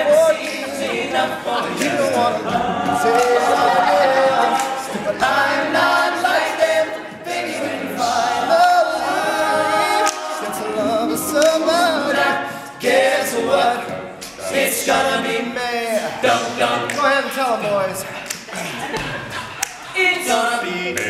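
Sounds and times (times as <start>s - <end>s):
men singing a cappella: 0.0s - 21.0s.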